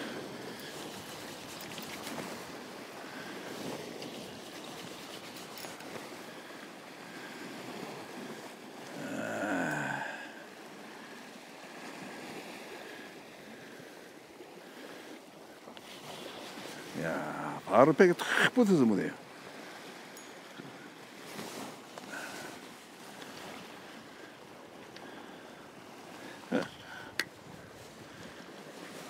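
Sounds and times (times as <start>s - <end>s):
sea waves washing on rocks: 0.0s - 29.0s.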